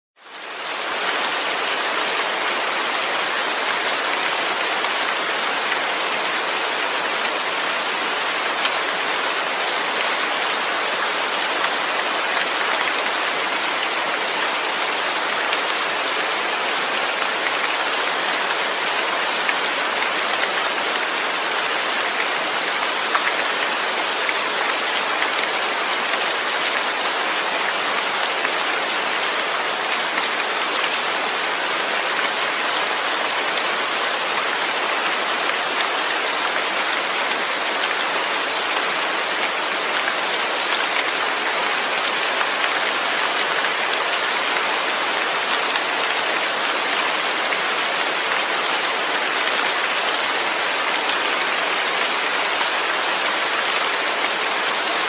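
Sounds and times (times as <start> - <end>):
steady rain hiss: 0.2 - 55.0.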